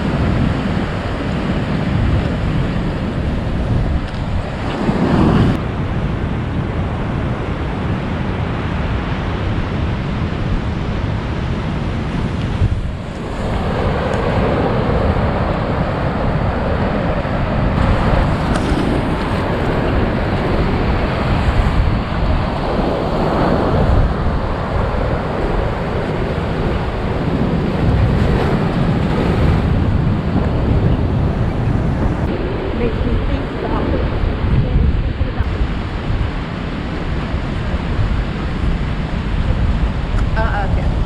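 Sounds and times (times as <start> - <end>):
ocean surf breaking: 0.0 - 41.0
wind buffeting microphone: 0.0 - 41.0.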